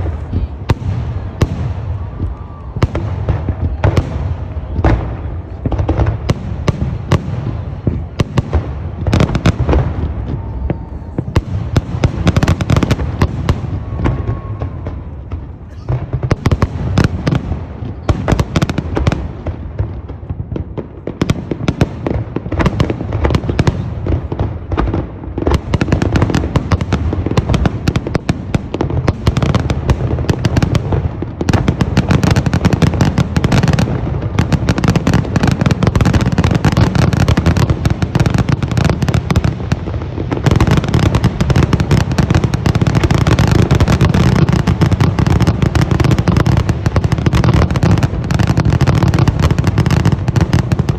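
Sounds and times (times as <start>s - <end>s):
fireworks exploding: 0.0s - 50.9s.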